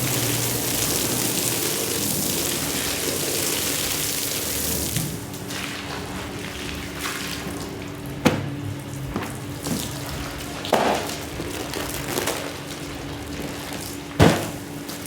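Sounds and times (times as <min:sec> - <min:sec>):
water splashing on a soaked rug: 0:00.0 - 0:15.0.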